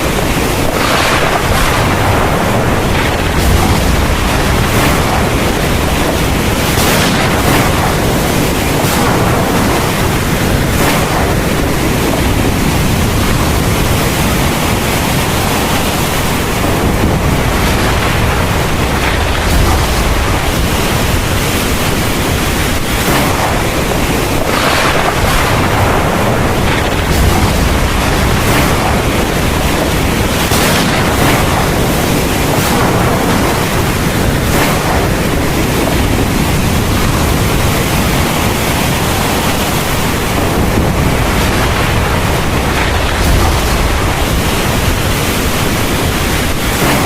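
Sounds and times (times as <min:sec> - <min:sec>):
deep continuous rumble: 0:00.0 - 0:47.0
heavy rain pouring: 0:00.0 - 0:47.0.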